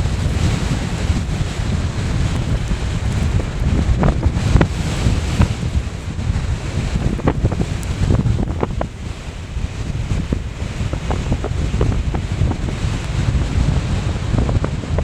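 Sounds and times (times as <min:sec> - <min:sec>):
small ticks: 0:00.0 - 0:13.8
blown sand hissing: 0:00.0 - 0:14.0
wind buffeting microphone: 0:00.0 - 0:15.0.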